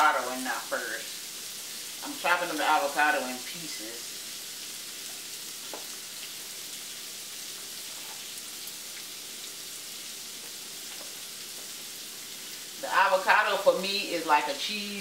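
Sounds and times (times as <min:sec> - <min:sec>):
meat and peppers sizzling: 0:00.0 - 0:15.0.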